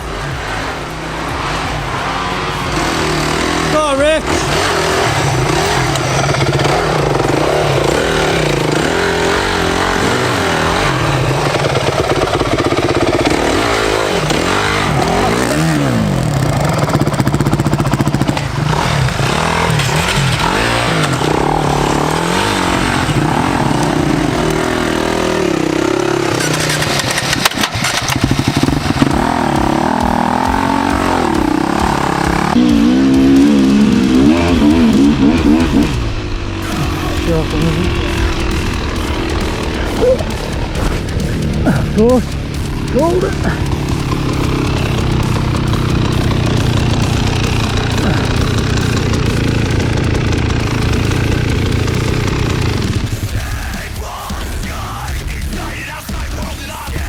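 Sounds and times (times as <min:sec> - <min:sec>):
motorcycle and atv engines revving: 0:00.0 - 0:57.0.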